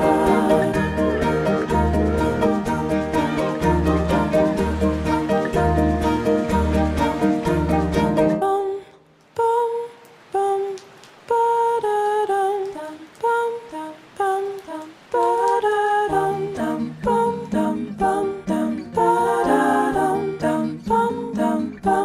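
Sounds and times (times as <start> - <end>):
hummed vocal melody: 0.0 - 22.0.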